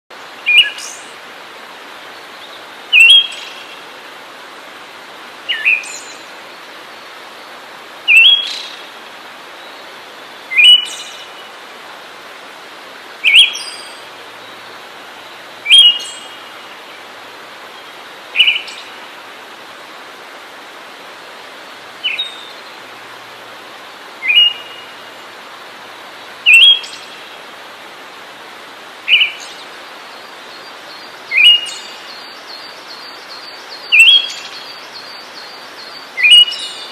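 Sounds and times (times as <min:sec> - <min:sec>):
background hiss: 0:00.1 - 0:36.9.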